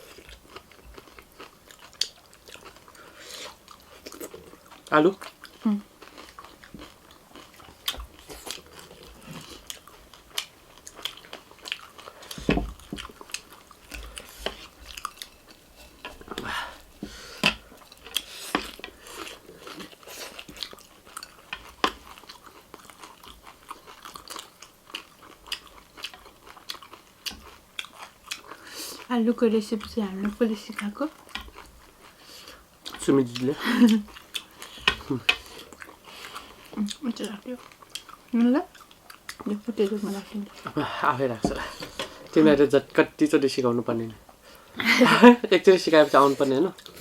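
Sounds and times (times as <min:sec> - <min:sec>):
chewing and crunching food: 0:00.0 - 0:47.0.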